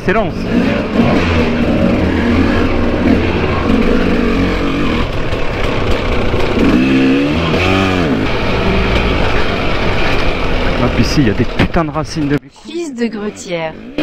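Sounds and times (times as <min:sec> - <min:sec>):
dirt bike engine running: 0:00.0 - 0:12.4
dirt bike revving: 0:00.0 - 0:12.4.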